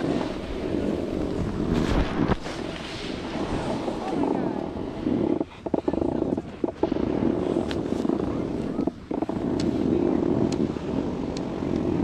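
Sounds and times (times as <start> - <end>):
skis scraping over snow: 0.0 - 12.0.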